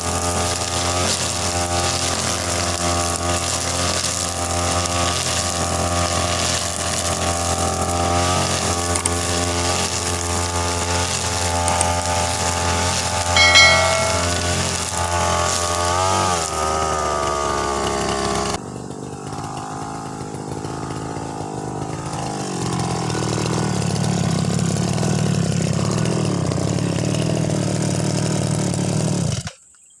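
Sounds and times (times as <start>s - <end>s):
brush cutter engine running: 0.0s - 13.9s, 14.8s - 29.6s.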